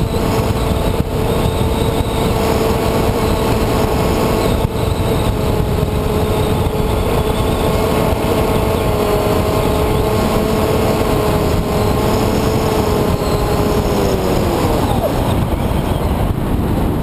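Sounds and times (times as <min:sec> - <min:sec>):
model plane motor whine: 0:00.0 - 0:17.0
wind rush on microphone: 0:00.0 - 0:17.0.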